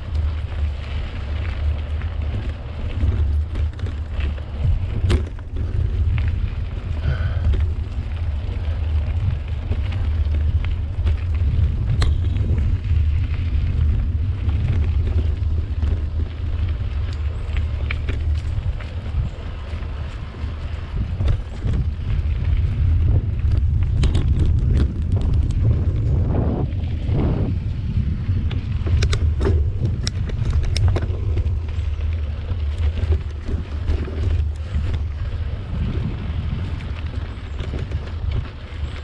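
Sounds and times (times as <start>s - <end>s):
bike rattling over ground: 0.0s - 39.0s
wind buffeting microphone: 0.0s - 39.0s.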